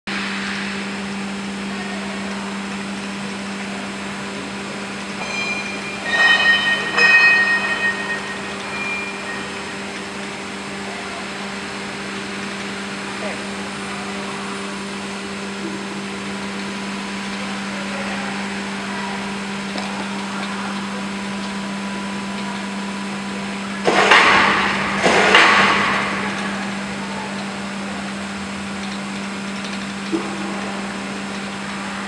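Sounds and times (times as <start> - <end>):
submerged mixer humming and whirring: 0.1 - 32.0.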